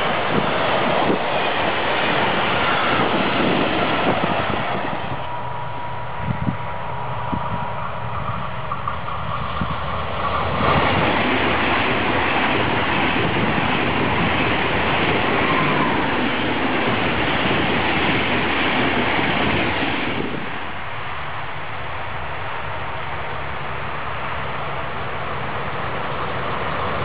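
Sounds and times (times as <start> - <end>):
high-speed train passing: 0.0 - 27.0.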